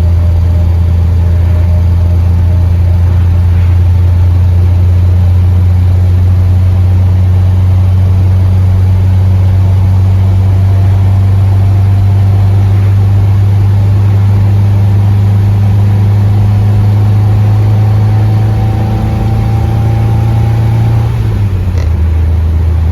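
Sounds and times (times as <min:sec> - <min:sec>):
car engine droning: 0:00.0 - 0:22.9
faint engine whine: 0:00.0 - 0:22.9.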